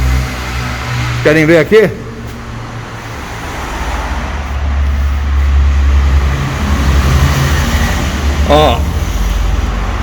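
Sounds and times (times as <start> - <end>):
motor vehicle rumble: 0.0 - 10.0.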